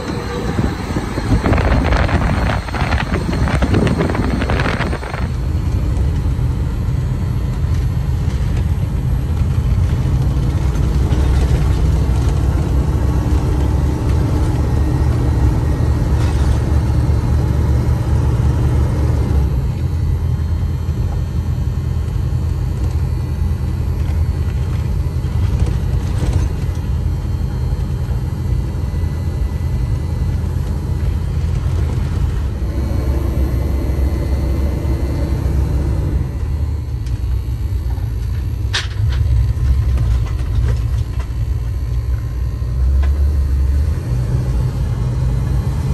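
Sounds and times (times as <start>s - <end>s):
vehicle engine and road drone: 0.0s - 45.9s.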